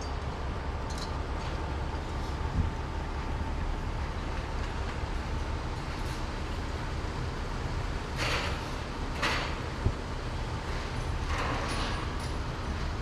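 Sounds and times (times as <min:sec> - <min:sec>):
low rumble of vehicle traffic: 0:00.0 - 0:13.0.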